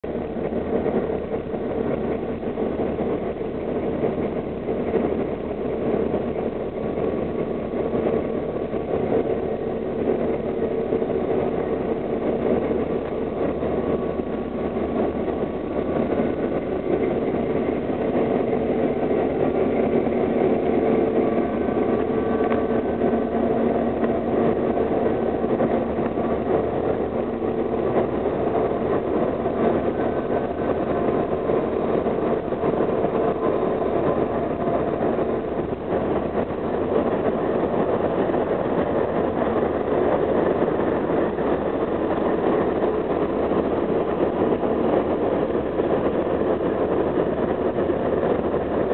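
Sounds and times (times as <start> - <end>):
locomotive engines idling: 0.0 - 48.9.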